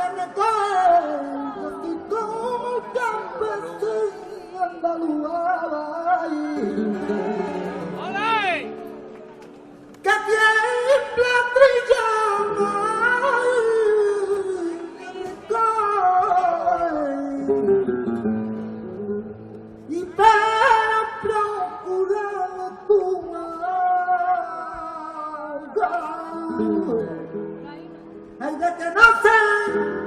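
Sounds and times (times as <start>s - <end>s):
man singing flamenco: 0.0s - 8.8s, 10.0s - 19.2s, 19.8s - 30.0s
flamenco guitar: 0.0s - 30.0s.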